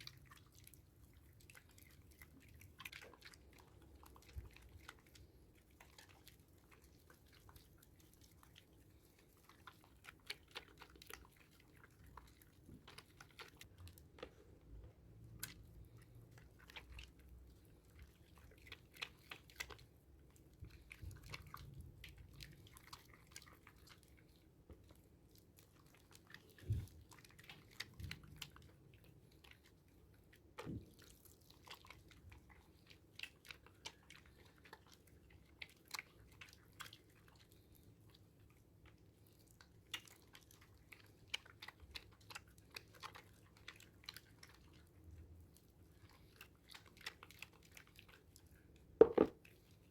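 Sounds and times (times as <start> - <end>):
wet soap lather crackles: 0.0 - 49.9.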